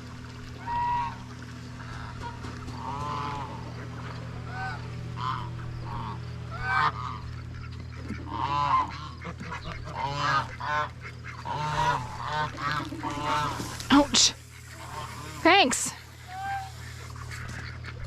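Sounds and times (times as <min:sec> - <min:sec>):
steady low hum: 0:00.0 - 0:18.0
waterfowl harsh calls: 0:00.5 - 0:18.0.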